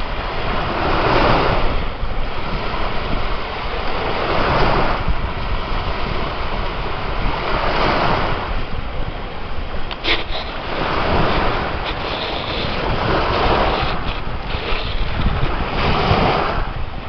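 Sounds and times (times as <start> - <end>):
waves breaking: 0.0 - 17.0
wind rumble on microphone: 0.0 - 17.0.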